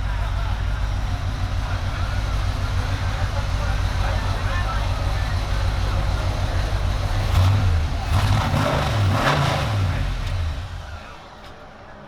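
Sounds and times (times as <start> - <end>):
engine rev blips: 0.0 - 11.2
race car engine rumbling: 0.0 - 12.0.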